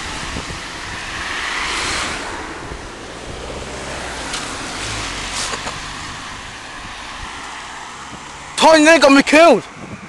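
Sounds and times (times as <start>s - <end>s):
bicycle tyre and road noise: 0.0s - 10.0s
wind rushing over microphone: 0.0s - 10.0s.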